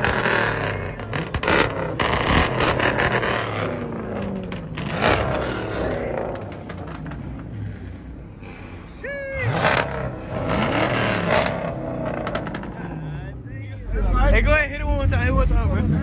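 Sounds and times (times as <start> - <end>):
car engine revving: 0.0 - 16.0
exhaust cracks: 0.0 - 16.0.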